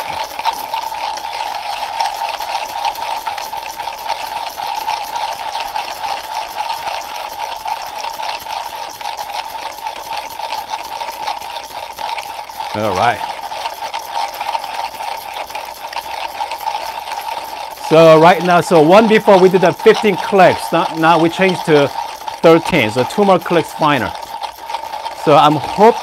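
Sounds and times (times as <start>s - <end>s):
coffee beans crunching: 0.0s - 26.0s
hand coffee grinder cranking: 0.0s - 26.0s.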